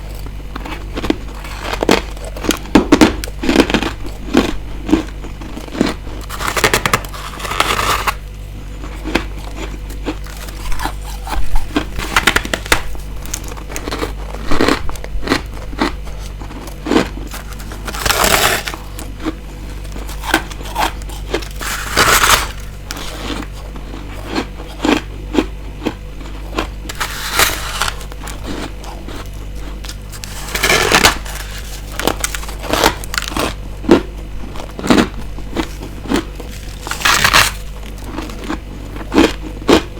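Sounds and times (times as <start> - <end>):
chewing ice crunches: 0.0 - 39.9
steady low hum: 0.0 - 39.9.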